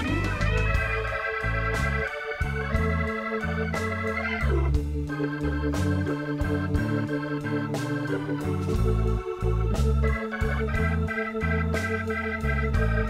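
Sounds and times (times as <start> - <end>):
keyboard tune with bass line: 0.0 - 13.0.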